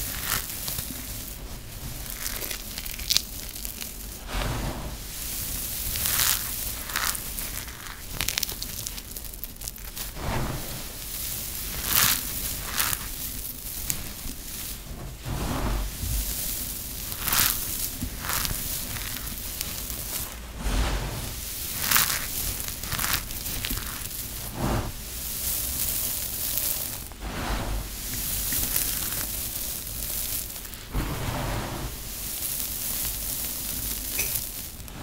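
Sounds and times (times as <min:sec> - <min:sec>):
dry soap crumbs crunching: 0:00.0 - 0:35.0.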